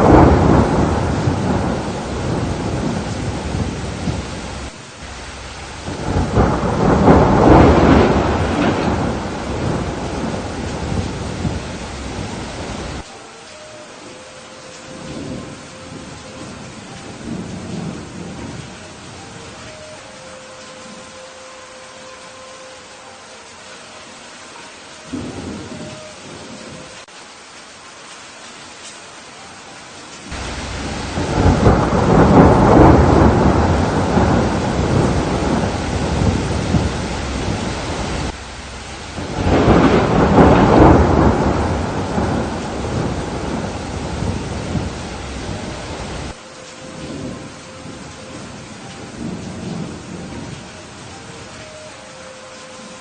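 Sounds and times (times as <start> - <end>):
thunder rumbling: 0.0 - 13.0, 14.8 - 21.2, 25.1 - 27.1, 30.3 - 51.8
steady rain: 0.0 - 53.0.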